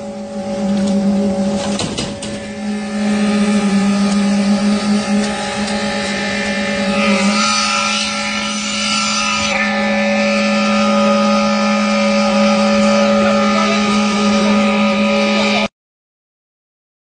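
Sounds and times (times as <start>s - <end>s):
constant low hum: 0.0s - 15.7s
construction machinery motor drone: 0.0s - 15.7s.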